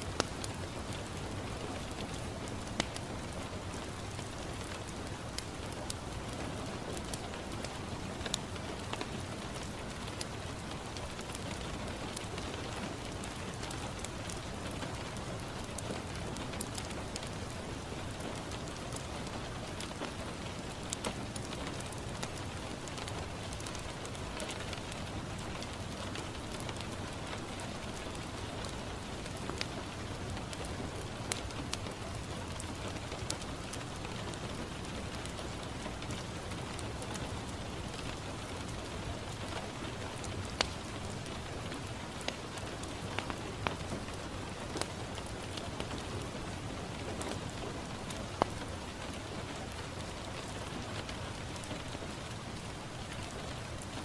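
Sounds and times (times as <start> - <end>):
fireplace crackling: 0.0 - 54.0
rain on window glass: 0.0 - 54.0.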